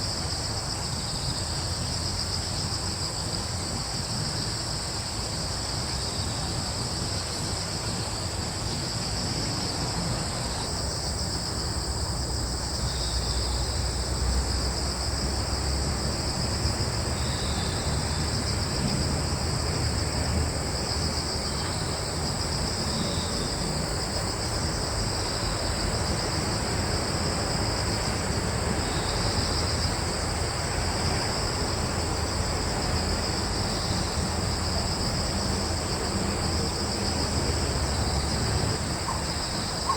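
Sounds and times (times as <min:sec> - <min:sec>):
crickets trilling: 0:00.0 - 0:39.9
low rumble of breeze: 0:00.0 - 0:39.9.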